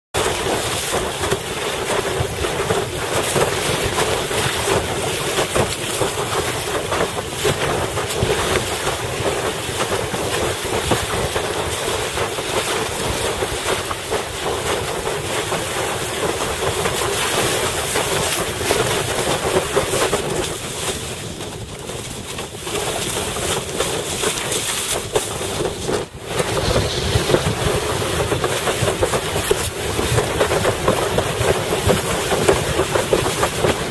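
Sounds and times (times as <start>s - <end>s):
water rushing and slapping under board: 0.1s - 33.9s
wind buffeting microphone: 0.2s - 33.9s.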